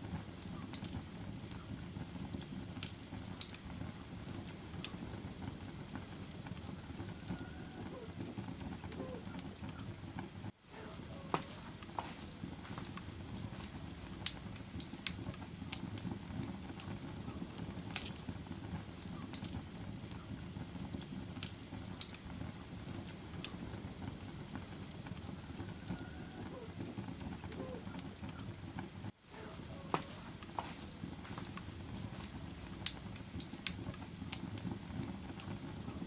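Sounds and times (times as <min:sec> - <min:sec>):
fire crackling: 0:00.0 - 0:36.0
fire popping and snapping: 0:00.0 - 0:36.0.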